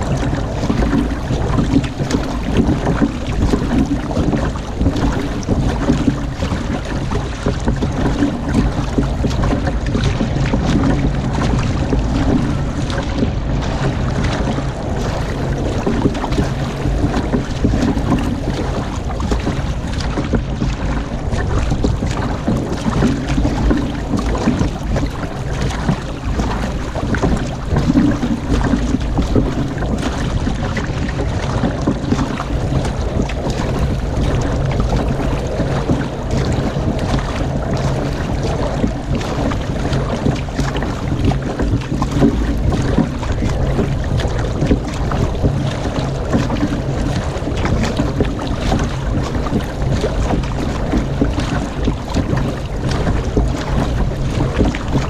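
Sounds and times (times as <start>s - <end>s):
paddle splashing: 0.0s - 55.0s
water rushing: 0.0s - 55.0s
wind buffeting microphone: 0.0s - 55.0s.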